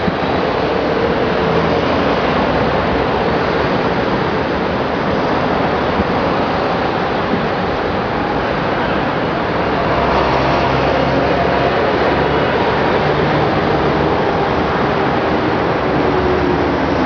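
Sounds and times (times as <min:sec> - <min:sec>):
highway traffic: 0:00.0 - 0:17.0.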